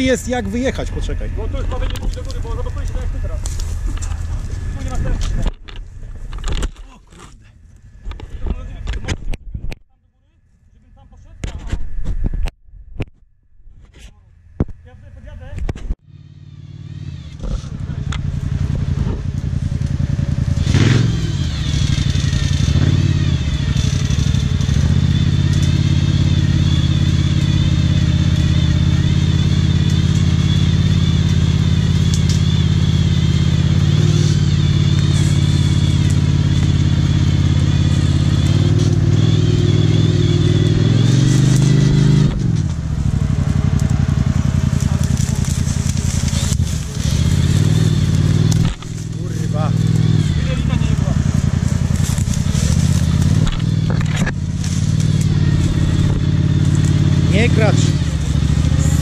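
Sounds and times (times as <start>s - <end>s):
quad engine revving: 0.0s - 5.6s, 16.0s - 59.0s.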